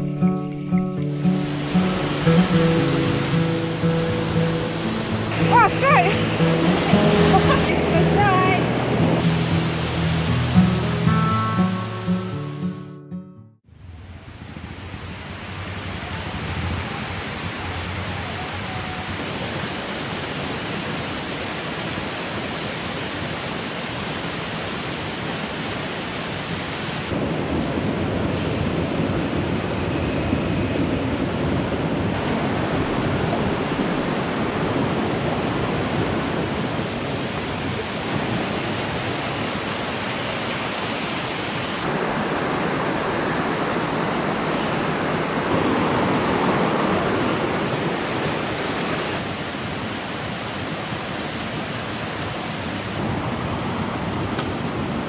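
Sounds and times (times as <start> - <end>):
waterfall rushing water: 0.6 - 12.6, 13.8 - 30.2, 31.1 - 55.0.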